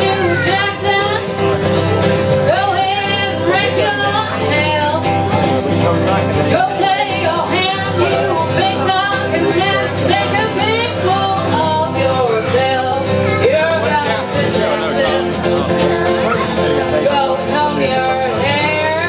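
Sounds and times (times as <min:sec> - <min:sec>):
person singing: 0:00.0 - 0:01.7, 0:02.4 - 0:05.2, 0:06.0 - 0:19.0
acoustic guitar strumming: 0:00.0 - 0:19.0.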